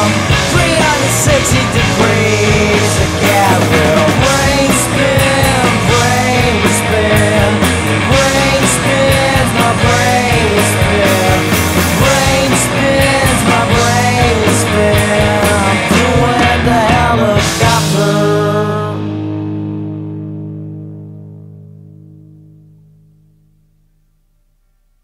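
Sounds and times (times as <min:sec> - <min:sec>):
rock song with full band: 0:00.0 - 0:22.3.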